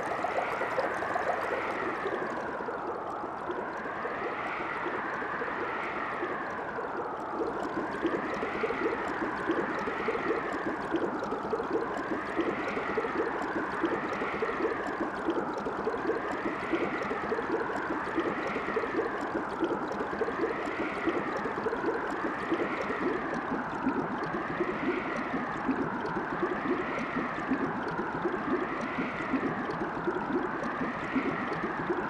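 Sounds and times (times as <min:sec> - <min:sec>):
water gurgling: 0:00.0 - 0:32.0.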